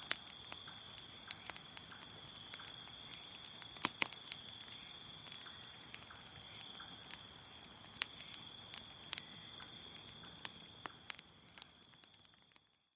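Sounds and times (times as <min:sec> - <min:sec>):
crickets chirping: 0:00.0 - 0:12.9
wood fire crackling: 0:00.0 - 0:12.9.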